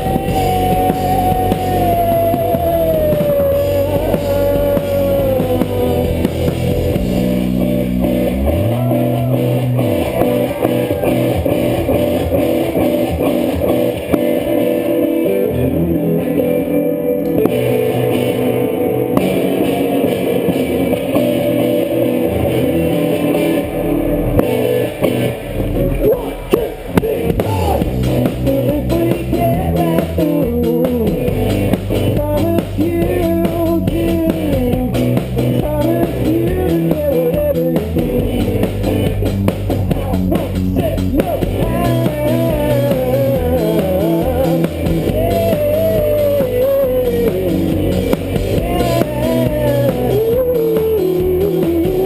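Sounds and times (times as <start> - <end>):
bass guitar: 0.0 - 52.0
drums: 0.0 - 52.0
guitar lead line: 0.0 - 52.0.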